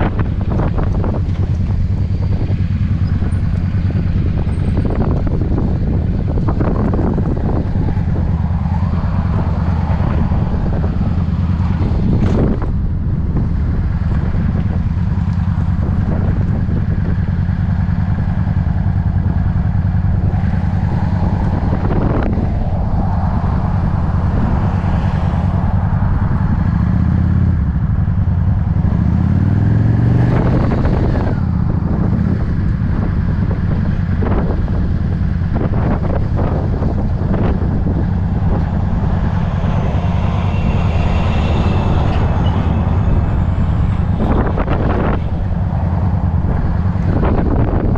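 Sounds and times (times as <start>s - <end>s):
motorcycle engine running: 0.0s - 47.9s
wind rushing over microphone: 0.0s - 47.9s.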